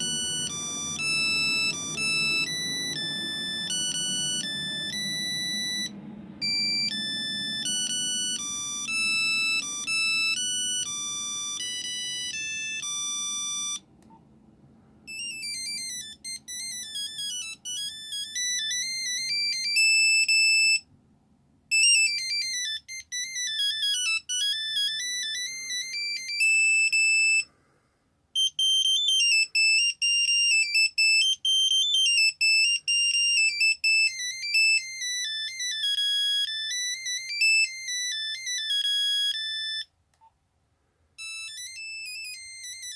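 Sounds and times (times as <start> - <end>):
monophonic phone ringtones: 0.0 - 13.9, 15.1 - 20.8, 21.7 - 27.5, 28.4 - 39.9, 41.2 - 42.9.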